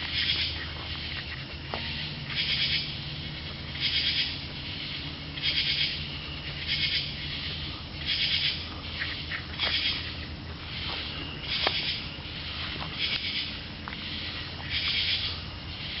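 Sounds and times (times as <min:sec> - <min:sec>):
animal giving raspy calls: 0:00.0 - 0:16.0
low hum: 0:00.0 - 0:16.0.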